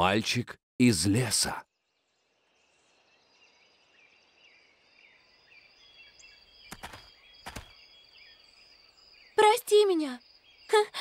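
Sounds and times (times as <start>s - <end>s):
small birds chirping: 0.8s - 11.0s.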